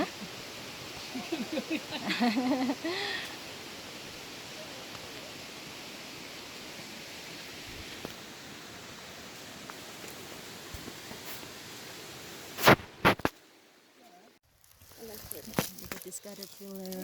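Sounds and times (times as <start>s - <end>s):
creek rushing: 0.0s - 14.0s.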